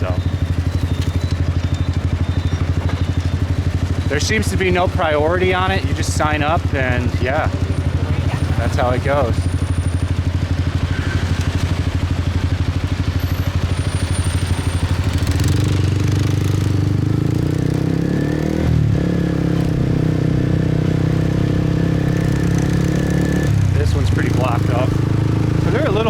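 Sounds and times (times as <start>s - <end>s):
motorbike engine running: 0.0s - 26.0s.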